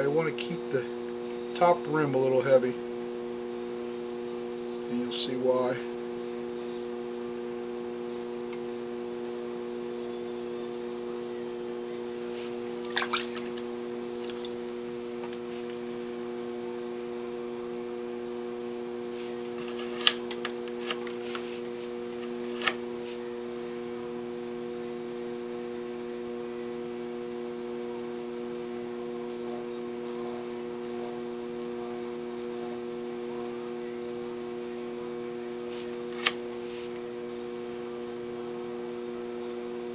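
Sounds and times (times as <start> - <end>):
potter's wheel electric hum: 0.0 - 39.9.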